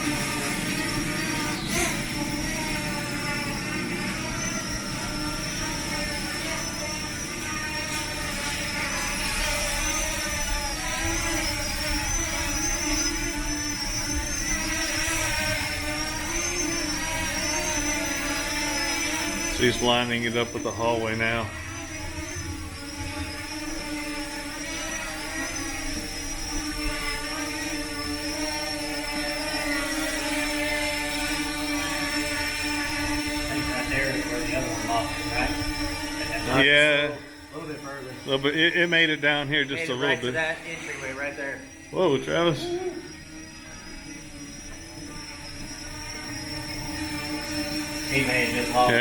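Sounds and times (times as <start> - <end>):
drone propellers whining: 0.0 - 49.0.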